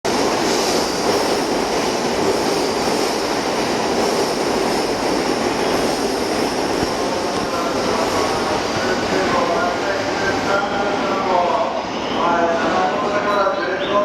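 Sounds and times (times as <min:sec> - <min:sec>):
train rumble and hiss: 0:00.1 - 0:14.0.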